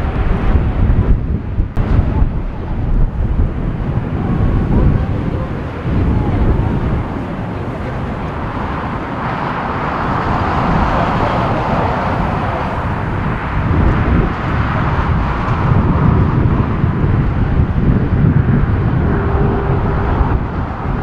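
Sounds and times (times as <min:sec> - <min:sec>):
jet engine roar: 0:00.0 - 0:21.0
wind rumbling on microphone: 0:00.0 - 0:21.0.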